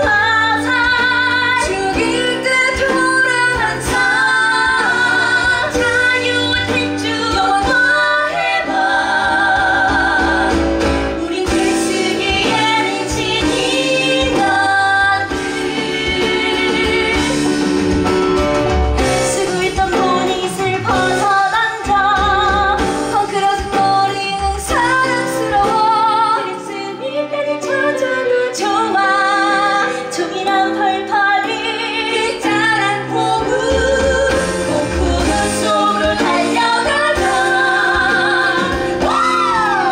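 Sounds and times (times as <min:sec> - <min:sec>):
women singing with vibrato: 0:00.0 - 0:17.8, 0:19.2 - 0:39.9
instrumental accompaniment: 0:00.0 - 0:39.9.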